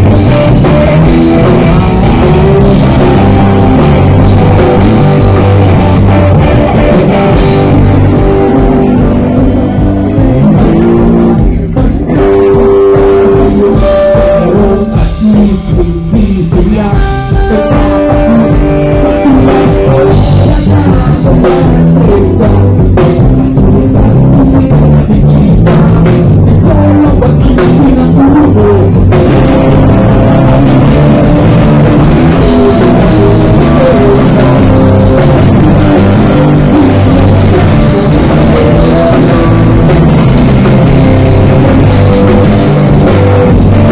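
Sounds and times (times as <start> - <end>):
drum kit: 0.0 - 43.9
electric guitars: 0.0 - 43.9
person singing: 0.0 - 43.9
rock band playing: 0.0 - 43.9.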